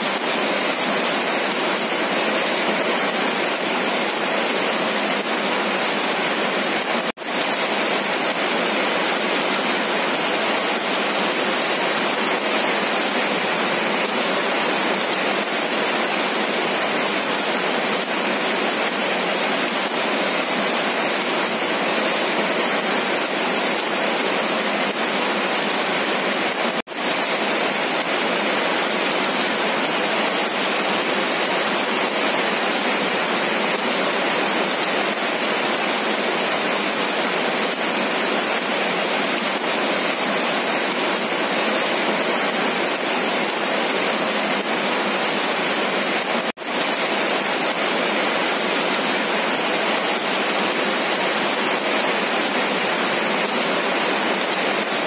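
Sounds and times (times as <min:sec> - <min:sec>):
rain on pavement and leaves: 0:00.0 - 0:55.0.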